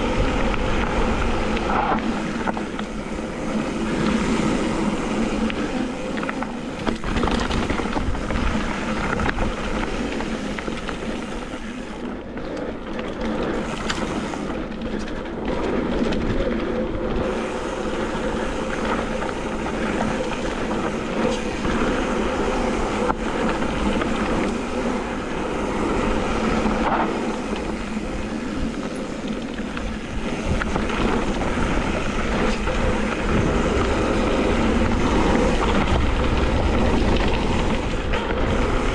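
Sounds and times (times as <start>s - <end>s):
tyres crunching over gravel: 0.1s - 38.9s.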